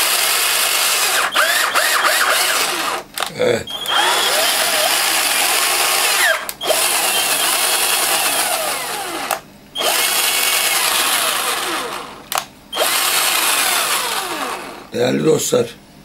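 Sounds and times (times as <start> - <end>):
cordless drill whining: 0.0 - 14.9.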